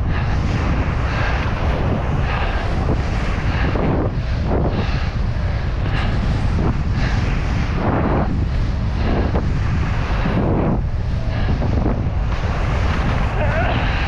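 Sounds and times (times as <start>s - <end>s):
wind buffeting microphone: 0.0s - 14.0s
skis scraping over snow: 0.1s - 14.0s.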